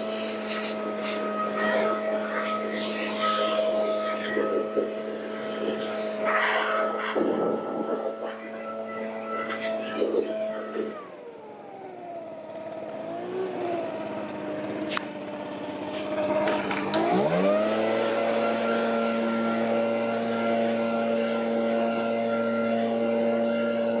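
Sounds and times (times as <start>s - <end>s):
leaf blower engine revving: 0.0s - 24.0s.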